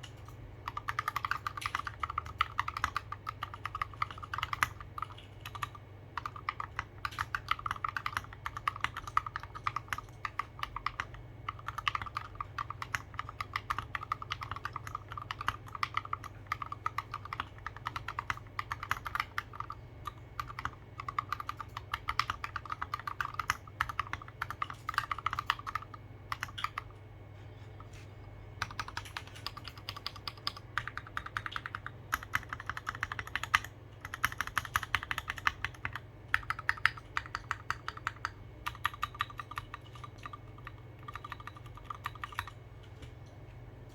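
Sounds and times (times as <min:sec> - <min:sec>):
mechanical keyboard typing: 0:00.0 - 0:26.9, 0:28.6 - 0:42.6.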